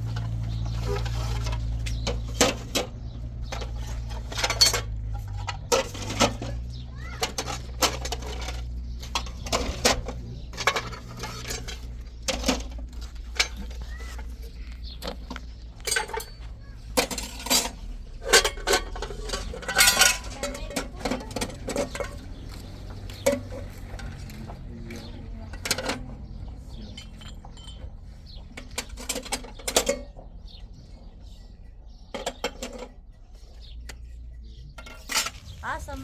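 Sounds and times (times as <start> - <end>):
hard objects clinking and knocking: 0.0 - 24.7, 25.4 - 30.4.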